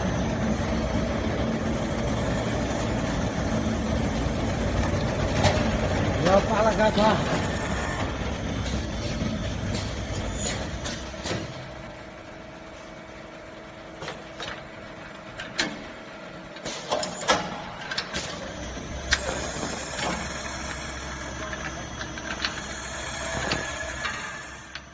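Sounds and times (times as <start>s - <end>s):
steady machine hum: 0.0s - 16.6s, 17.4s - 24.9s.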